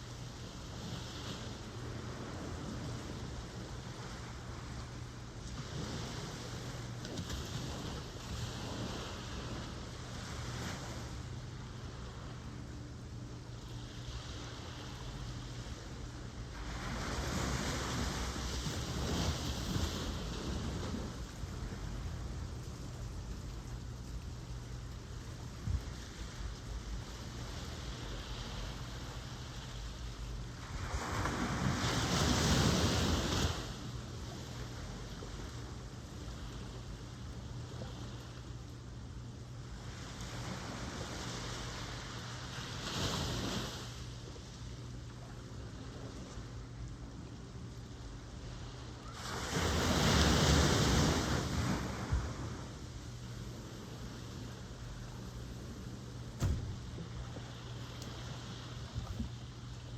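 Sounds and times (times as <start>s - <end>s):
wind rumble on microphone: 0.0s - 44.6s, 49.0s - 59.9s
ocean surf washing: 0.0s - 59.9s.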